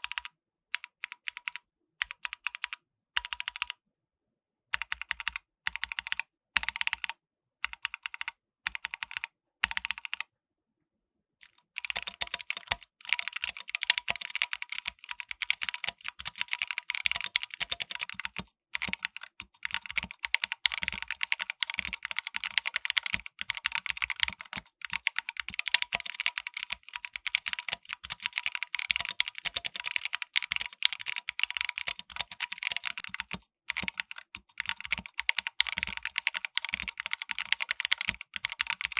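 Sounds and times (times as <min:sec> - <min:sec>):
mechanical keyboard typing: 0:00.0 - 0:03.7, 0:04.8 - 0:10.2, 0:11.4 - 0:38.9.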